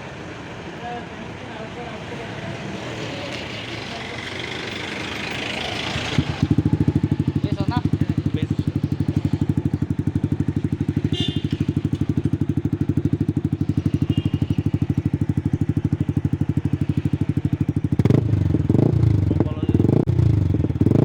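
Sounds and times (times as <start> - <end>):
motorcycle engine idling: 2.9 - 21.0.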